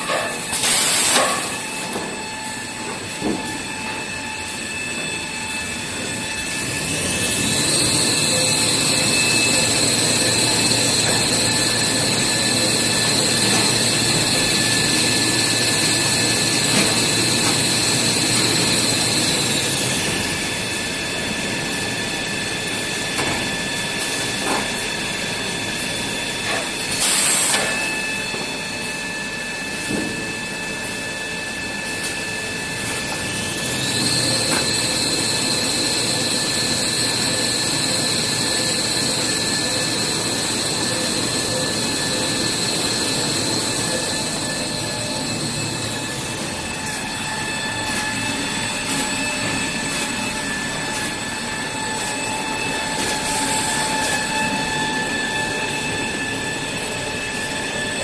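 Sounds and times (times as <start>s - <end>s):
high whine: 0.0s - 58.0s
machine hum: 1.4s - 27.0s, 31.3s - 58.0s.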